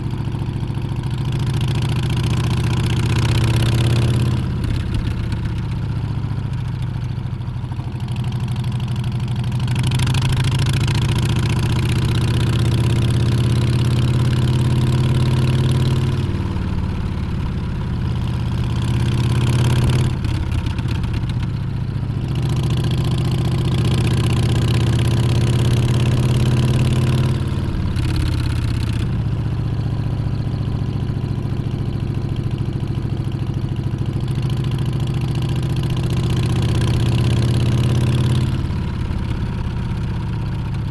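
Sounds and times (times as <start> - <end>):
motorcycle engine accelerating: 0.0 - 6.8, 7.8 - 40.9.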